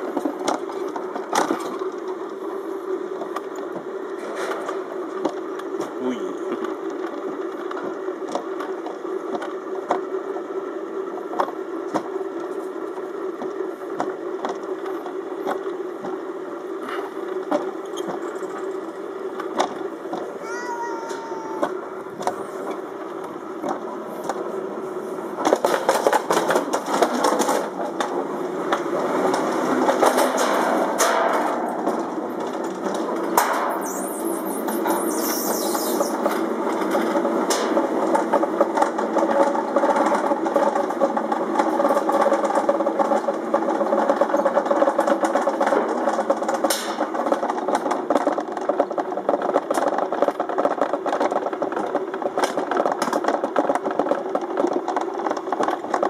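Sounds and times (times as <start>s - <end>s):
sled wheels rattling on rails: 0.0s - 56.0s.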